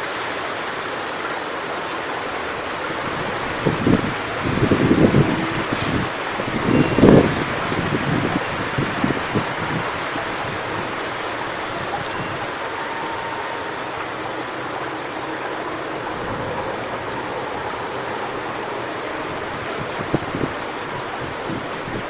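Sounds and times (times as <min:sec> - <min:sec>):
strong wind through palm fronds: 0:00.0 - 0:22.0
wind gusts buffeting microphone: 0:02.0 - 0:22.0.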